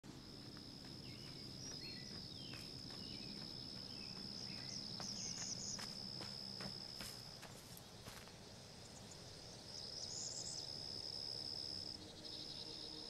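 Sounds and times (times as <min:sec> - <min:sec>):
birds chirping: 0:00.1 - 0:10.8
insect high-pitched drone: 0:00.1 - 0:13.0.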